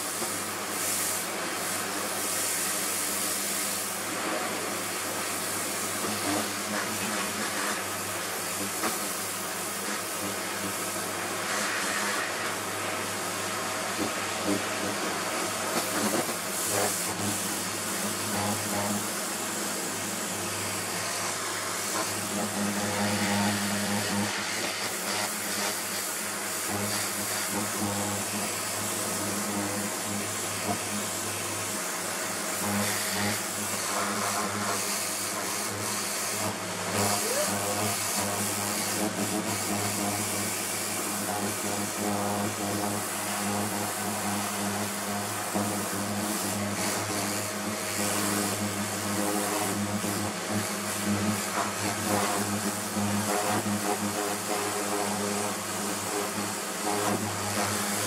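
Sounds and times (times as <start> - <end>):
pressure washer motor humming: 0.0 - 58.0
water jet hissing: 0.0 - 58.0.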